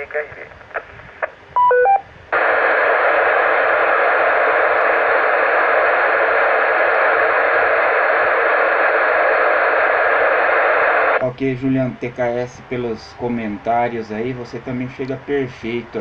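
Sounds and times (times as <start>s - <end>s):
radio hiss from speaker: 0.0s - 1.4s, 2.3s - 16.0s.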